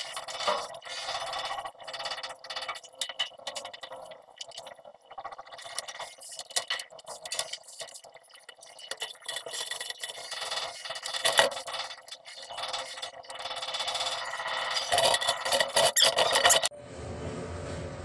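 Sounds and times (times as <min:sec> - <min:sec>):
plastic pipes knocking and scraping: 0:00.0 - 0:16.7.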